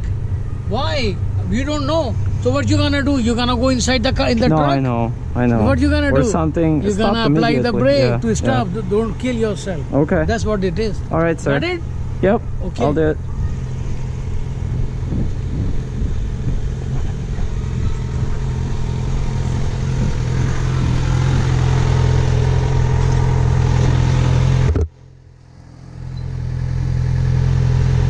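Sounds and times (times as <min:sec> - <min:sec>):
motorcycle engine humming: 0:00.0 - 0:28.0.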